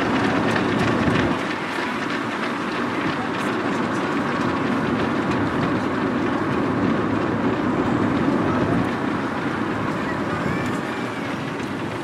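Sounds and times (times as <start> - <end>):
runners' footsteps on tarmac: 0.0 - 12.0.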